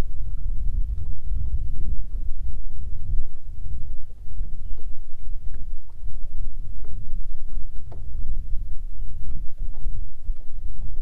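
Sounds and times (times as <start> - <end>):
small waves lapping against hull: 0.0 - 11.0
wind buffeting microphone: 0.0 - 11.0.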